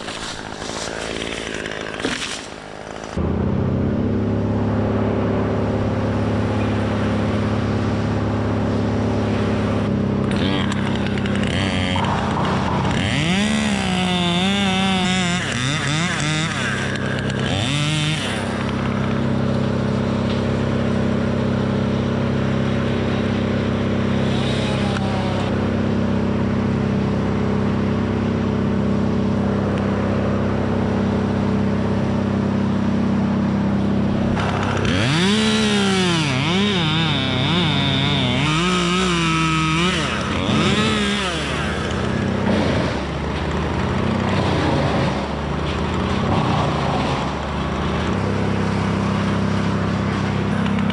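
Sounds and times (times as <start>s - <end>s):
chainsaw cutting wood: 0.0s - 3.2s, 5.6s - 28.0s, 33.6s - 50.9s
steady engine drone: 0.0s - 50.9s.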